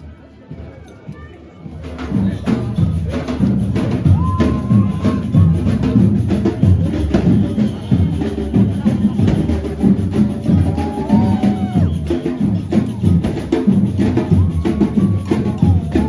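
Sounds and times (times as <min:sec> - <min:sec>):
procession band drums: 0:01.7 - 0:16.0.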